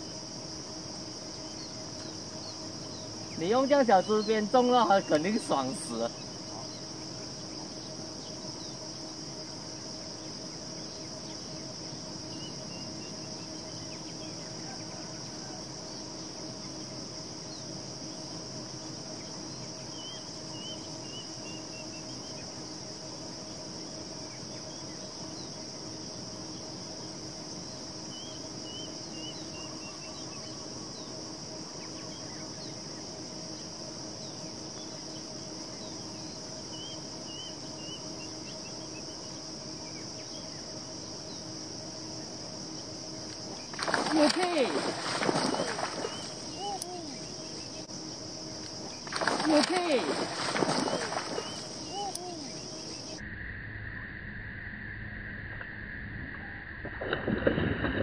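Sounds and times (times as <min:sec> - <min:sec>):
faint low hum: 0:00.0 - 0:58.0
insects buzzing: 0:00.0 - 0:58.0.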